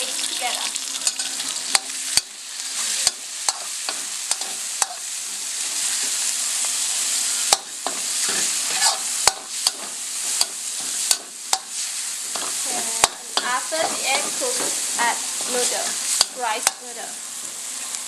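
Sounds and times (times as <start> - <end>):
food sizzling in a wok: 0.0 - 18.0
metal spatula scraping a wok: 1.0 - 16.8.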